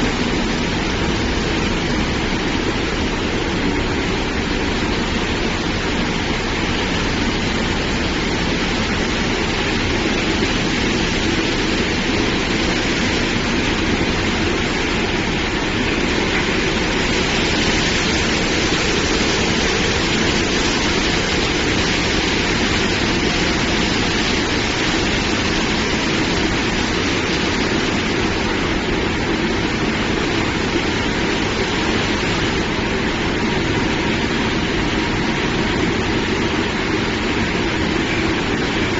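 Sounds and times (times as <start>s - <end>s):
car wash water spray and machinery: 0.0s - 38.9s.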